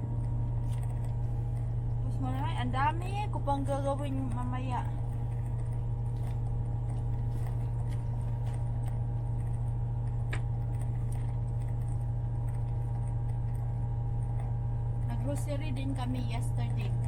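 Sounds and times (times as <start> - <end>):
truck engine idling hum: 0.0 - 17.0.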